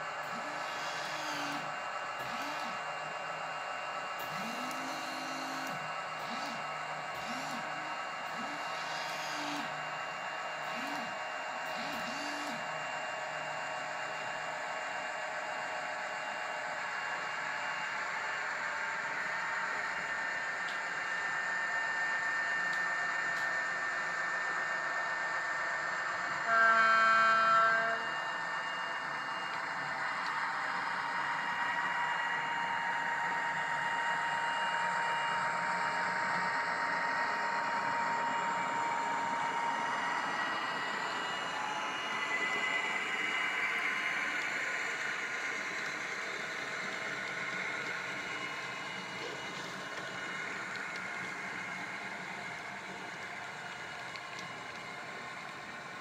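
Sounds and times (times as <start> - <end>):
model train whirring: 0.0 - 56.0.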